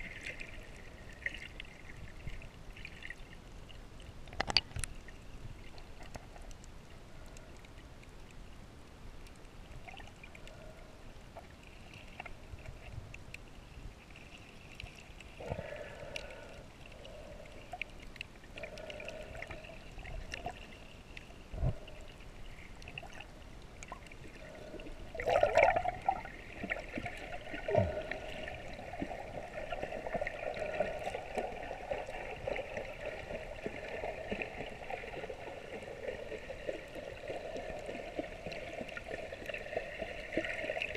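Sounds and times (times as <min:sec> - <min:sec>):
muffled underwater sloshing and gurgling: 0:00.0 - 0:08.6, 0:09.2 - 0:40.9.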